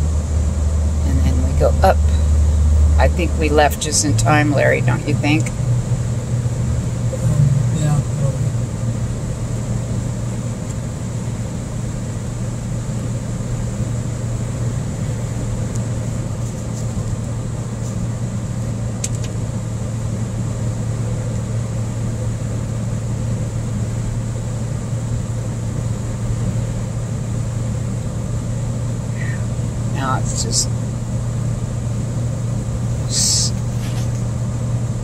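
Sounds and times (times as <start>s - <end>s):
vehicle cabin highway noise: 0.0s - 35.0s.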